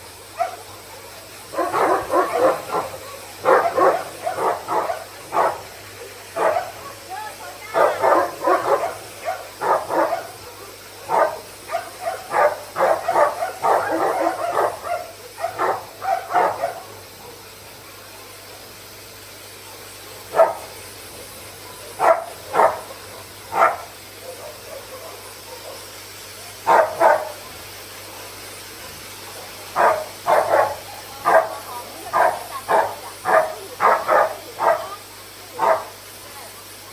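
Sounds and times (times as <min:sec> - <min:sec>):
dogs barking: 0:00.1 - 0:18.4, 0:19.6 - 0:27.5, 0:28.1 - 0:36.7.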